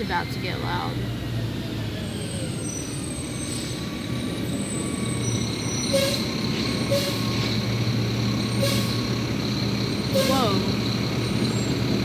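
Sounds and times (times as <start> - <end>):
brakes squealing: 0.0 - 12.0
diesel engine running: 0.0 - 12.0.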